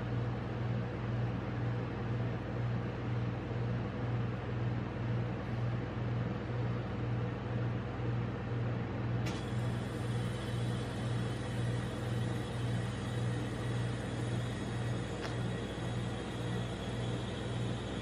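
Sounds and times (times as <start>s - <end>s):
refrigeration compressor humming: 0.0s - 18.0s.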